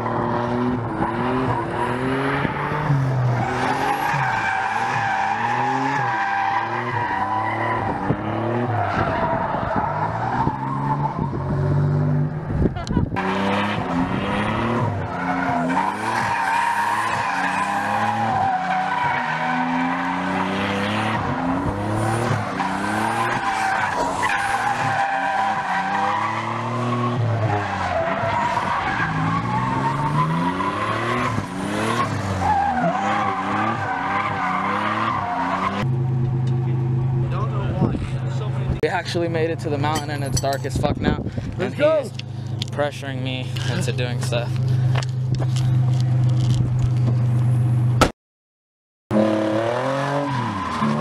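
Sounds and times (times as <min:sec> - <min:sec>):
car engine revving: 0:00.0 - 0:40.8, 0:49.1 - 0:51.0.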